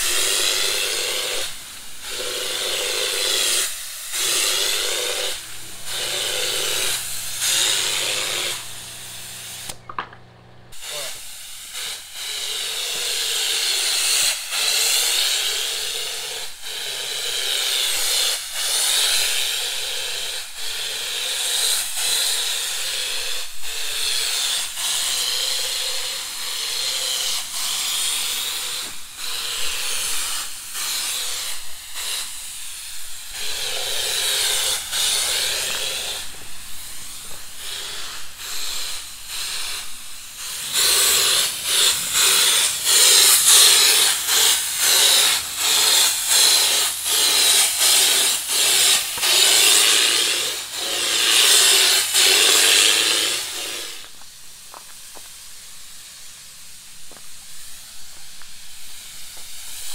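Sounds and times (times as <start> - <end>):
spray gun hissing: 0.0 - 59.9.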